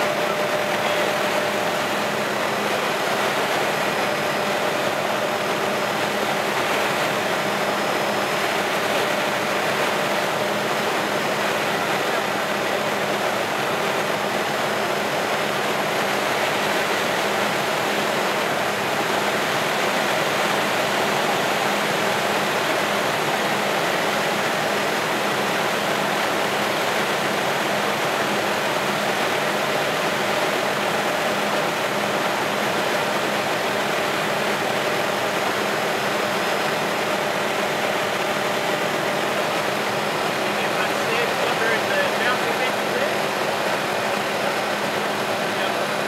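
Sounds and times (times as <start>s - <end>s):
helicopter engine and rotors: 0.0s - 46.0s.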